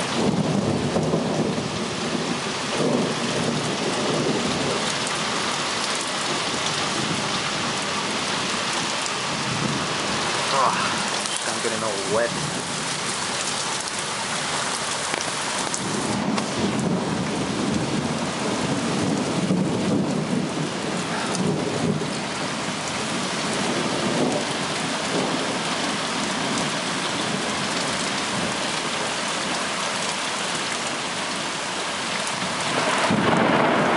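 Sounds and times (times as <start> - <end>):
thunder rumbling: 0.0 - 13.9, 15.1 - 29.2, 32.3 - 33.9
heavy rain pouring: 0.0 - 33.9.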